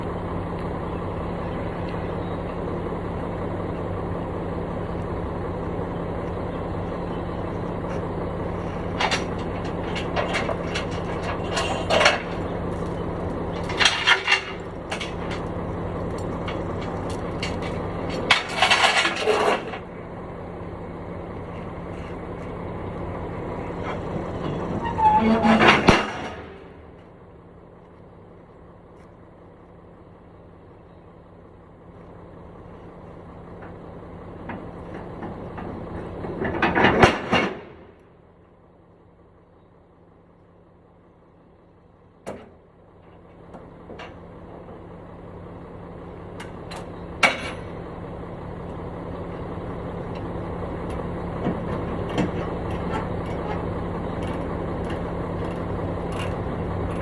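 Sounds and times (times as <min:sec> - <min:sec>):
construction machine engine idling: 0:00.0 - 0:57.0.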